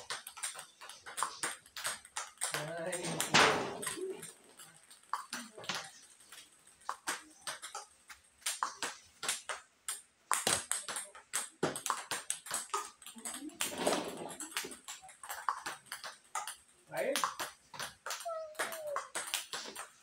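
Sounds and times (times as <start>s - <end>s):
ball bouncing on table: 0.0s - 20.0s
table tennis ball hits: 0.0s - 20.0s.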